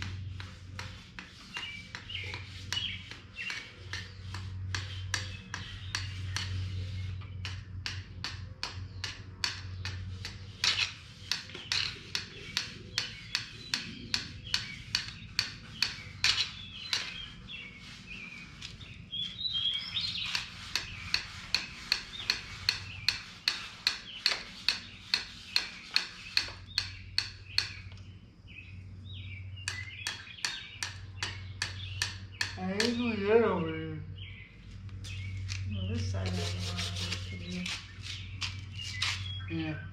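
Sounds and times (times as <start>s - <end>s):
emery cloth sanding metal: 0.0s - 27.8s, 35.0s - 39.3s
bird chirping: 0.0s - 39.9s.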